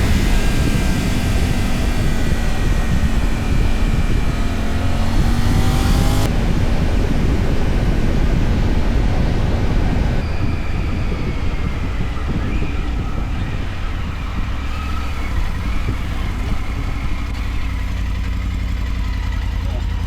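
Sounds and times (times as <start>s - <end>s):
wind rumble on microphone: 0.0s - 18.4s
motorcycle engine running: 0.0s - 20.0s.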